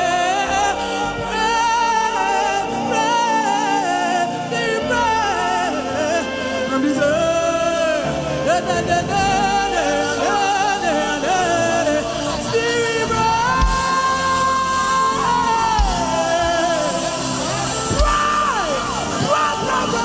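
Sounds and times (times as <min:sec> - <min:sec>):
gospel worship singing: 0:00.0 - 0:20.0.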